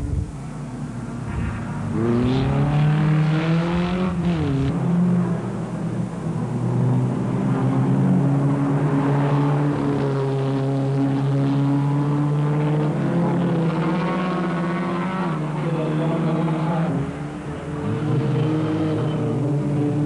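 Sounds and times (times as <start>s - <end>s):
racing car engine revving: 1.3s - 5.8s, 6.5s - 20.0s.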